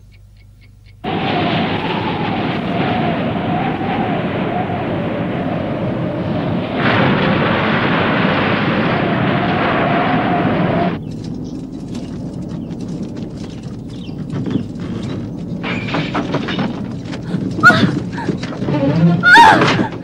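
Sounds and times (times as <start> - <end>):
huge explosion: 1.0 - 20.0
rumbling destruction: 1.0 - 20.0.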